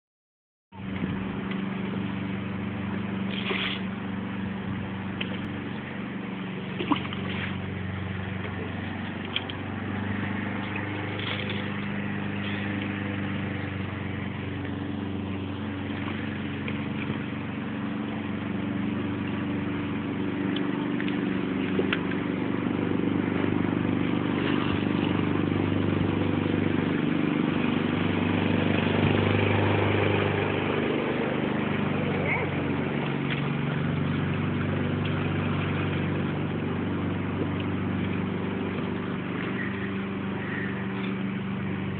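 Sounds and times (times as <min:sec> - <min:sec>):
engine hum: 0:00.7 - 0:41.9.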